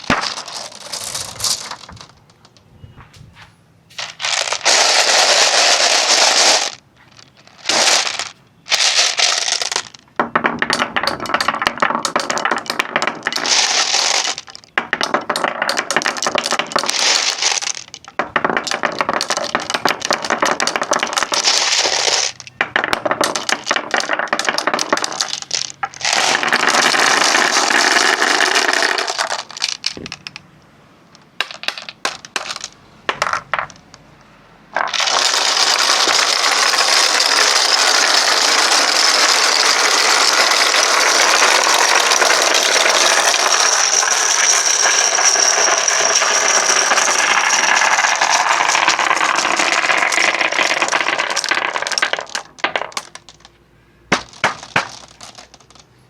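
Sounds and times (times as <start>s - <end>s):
marbles rattling down wooden tracks: 0.0s - 2.7s, 4.0s - 30.5s, 31.1s - 34.0s, 34.7s - 56.0s.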